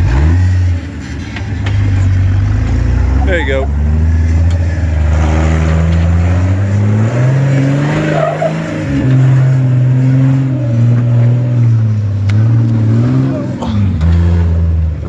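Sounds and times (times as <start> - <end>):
engine working under load: 0.0 - 15.0.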